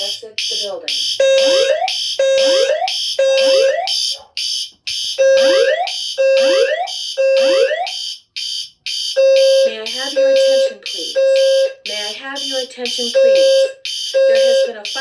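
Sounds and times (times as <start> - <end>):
fire alarm evacuation tone: 0.0 - 15.0.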